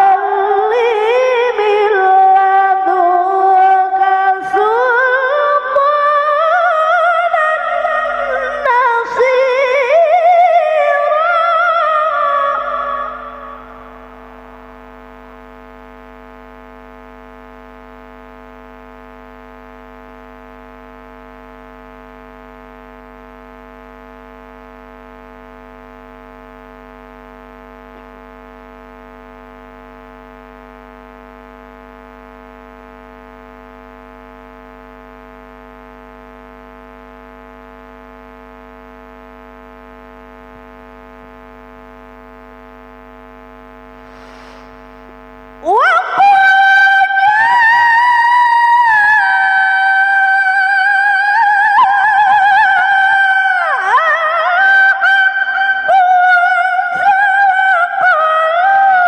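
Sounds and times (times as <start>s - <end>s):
electrical buzzing hum: 0.0s - 59.0s.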